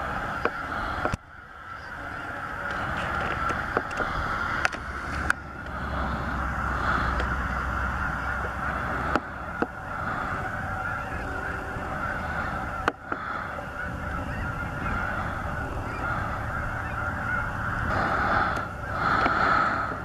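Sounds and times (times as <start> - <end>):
flock of geese honking: 0.0 - 20.0.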